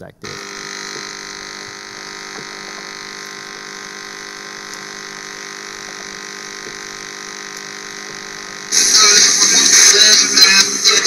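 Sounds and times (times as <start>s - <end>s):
steady hum of held tones: 0.0s - 11.0s.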